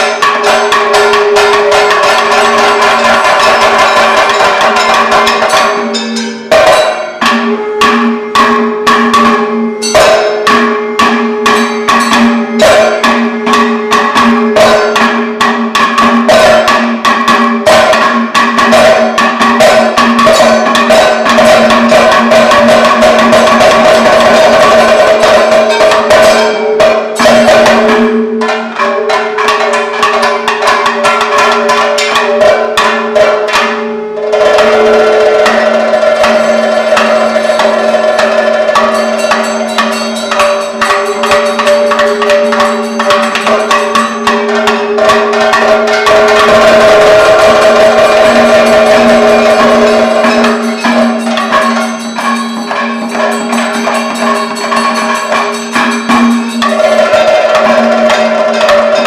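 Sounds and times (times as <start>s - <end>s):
fast dense drum strokes: 0.0s - 59.0s
gong and cymbal strikes: 0.0s - 59.0s.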